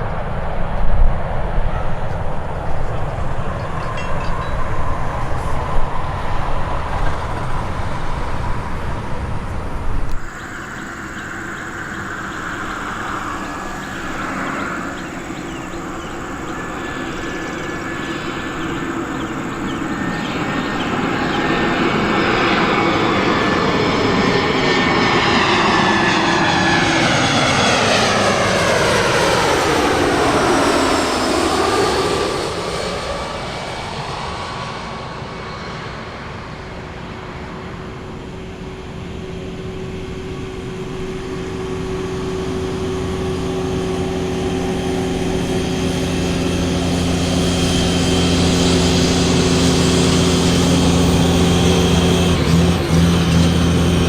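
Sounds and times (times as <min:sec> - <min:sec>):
low engine hum: 0:00.0 - 0:34.8, 0:35.4 - 0:54.0
airliner passing overhead: 0:00.0 - 0:54.0.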